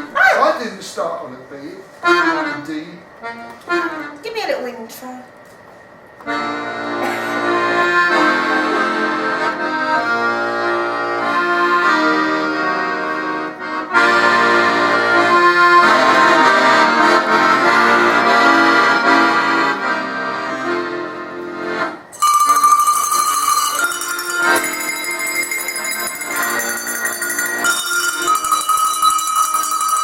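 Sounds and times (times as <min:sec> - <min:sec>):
accordion playing chords: 0:00.0 - 0:04.7, 0:06.2 - 0:30.0.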